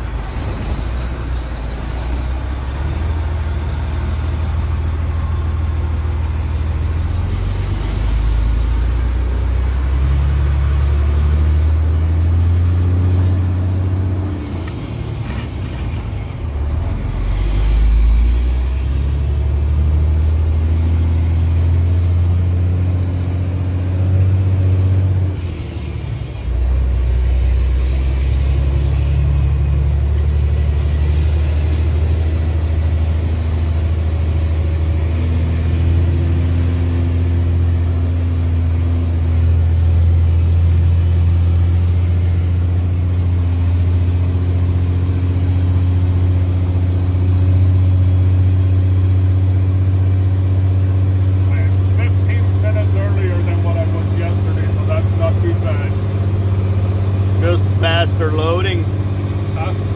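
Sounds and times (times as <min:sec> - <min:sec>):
diesel truck engine drone: 0:00.0 - 0:59.9.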